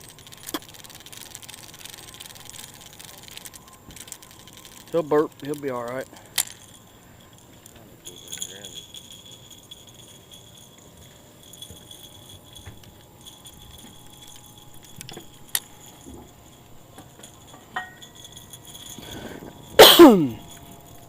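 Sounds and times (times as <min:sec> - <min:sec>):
light clinking: 0:00.0 - 0:21.0
steady high-pitched whine: 0:00.0 - 0:21.0.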